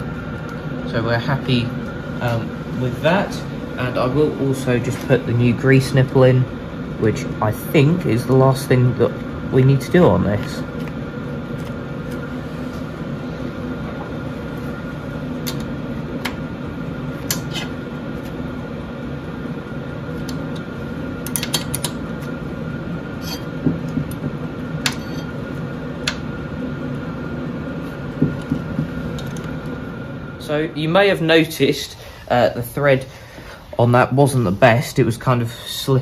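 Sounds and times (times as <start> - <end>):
fan hum: 0.0 - 36.0.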